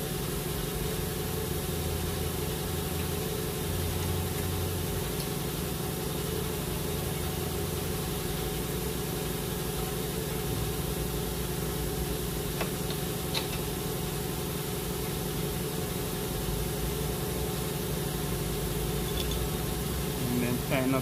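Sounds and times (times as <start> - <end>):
shop machinery drone: 0.0 - 21.0.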